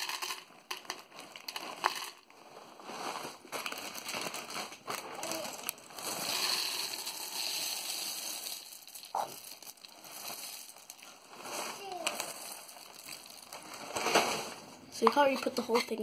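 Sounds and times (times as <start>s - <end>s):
cereal pouring into plastic canister: 0.0s - 14.6s.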